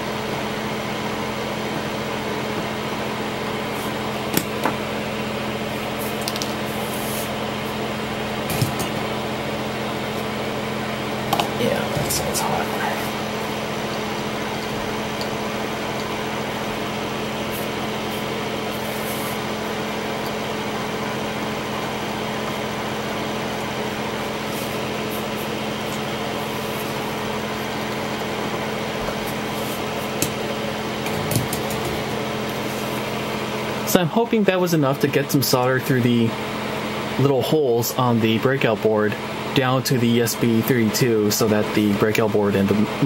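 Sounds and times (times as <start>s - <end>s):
machine hum and hiss: 0.0s - 43.0s.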